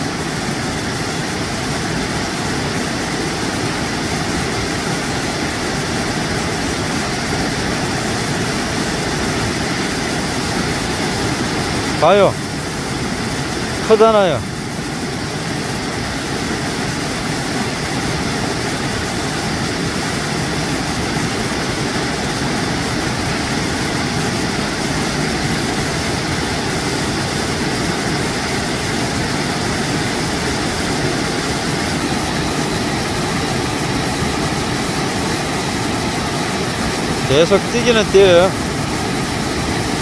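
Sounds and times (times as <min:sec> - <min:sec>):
waterfall rushing over rock: 0:00.0 - 0:40.0.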